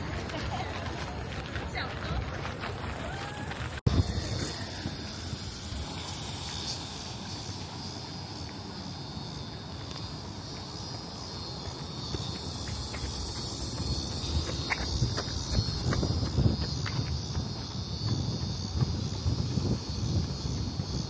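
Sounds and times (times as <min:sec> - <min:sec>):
high-pitched insect drone: 0:03.9 - 0:21.0.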